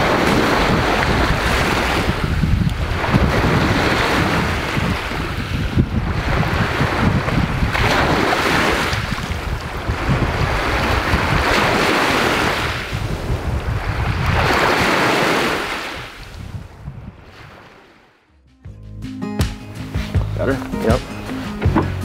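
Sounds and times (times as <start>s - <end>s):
wind rumble on microphone: 0.0s - 17.7s
waves breaking on a shore: 0.0s - 18.2s.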